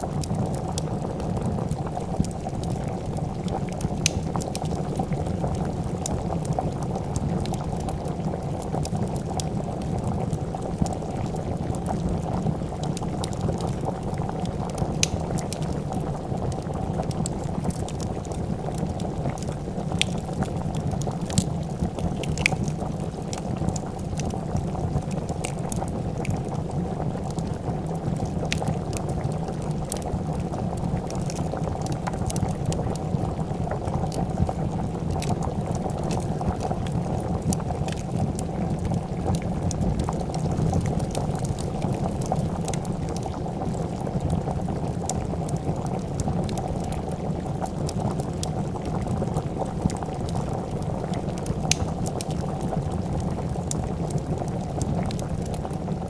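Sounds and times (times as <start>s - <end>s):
soup boiling: 0.0s - 56.0s
wood fire crackling: 0.0s - 56.0s.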